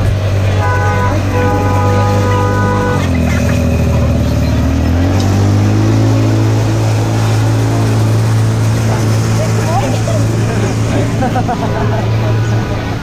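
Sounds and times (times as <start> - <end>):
small tram engine running: 0.0 - 5.8, 6.8 - 13.0.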